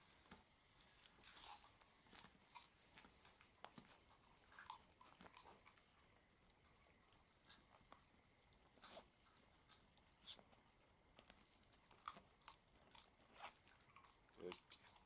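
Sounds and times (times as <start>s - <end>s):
puppy teeth crunching bone: 0.2s - 15.0s.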